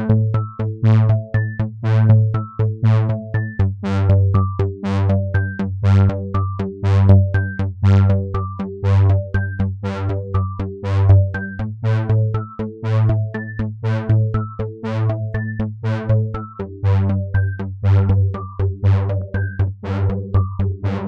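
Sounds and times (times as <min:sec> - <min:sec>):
synthesizer plucked notes: 0:00.0 - 0:21.0.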